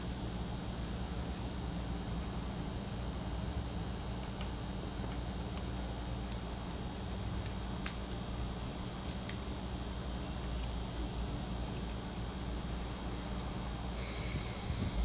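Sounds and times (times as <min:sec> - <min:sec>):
low hum and hiss: 0:00.0 - 0:15.0.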